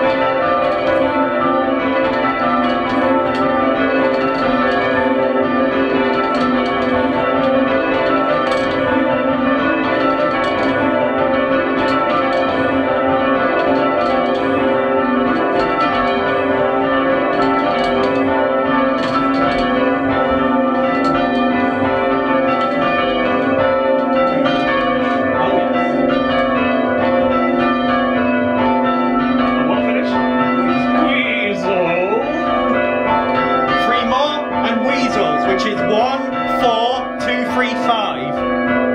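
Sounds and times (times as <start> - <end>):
church bells change ringing: 0.0 - 38.9.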